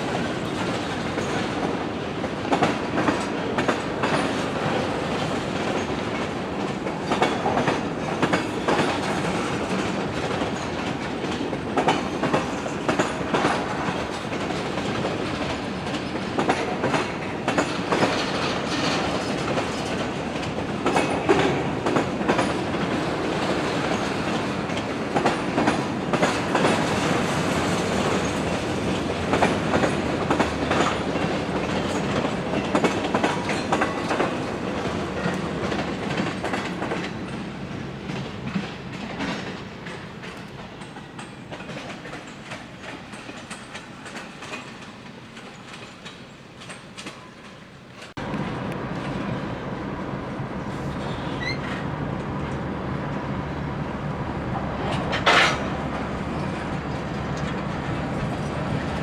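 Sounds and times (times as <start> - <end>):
train wheels clacking on rails: 0.0 - 49.7, 54.5 - 59.0.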